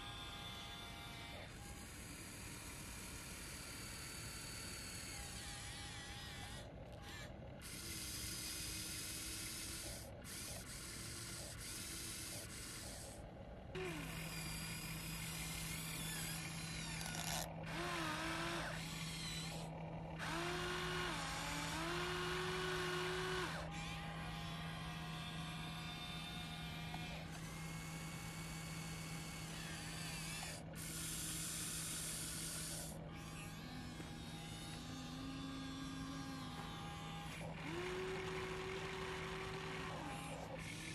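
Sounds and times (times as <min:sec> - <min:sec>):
small electric motors whining: 0:00.0 - 0:40.9.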